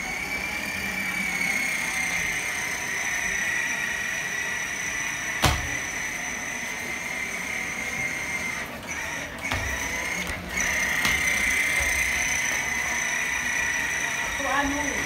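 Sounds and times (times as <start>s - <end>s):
toy motorcycle electric motor whine: 0.0s - 15.0s.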